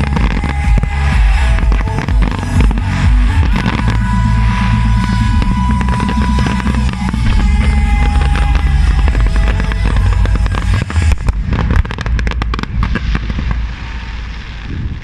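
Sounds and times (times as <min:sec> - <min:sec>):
music playing: 0:00.0 - 0:14.6
fireworks bangs and crackles: 0:00.0 - 0:15.0.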